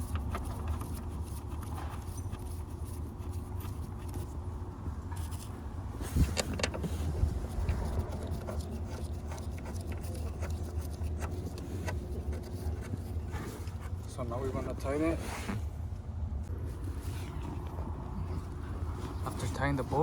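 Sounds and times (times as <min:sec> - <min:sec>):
steady low rumble: 0:03.6 - 0:20.0.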